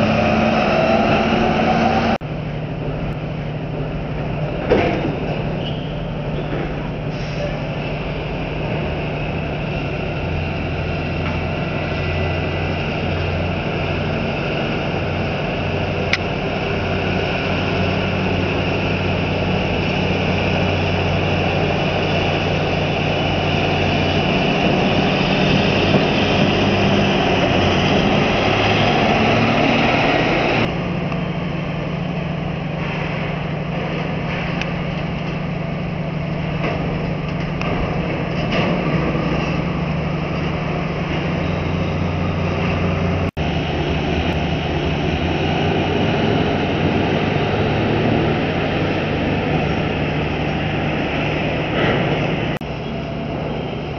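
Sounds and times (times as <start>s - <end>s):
diesel tractor engine rumbling: 0.0s - 53.9s.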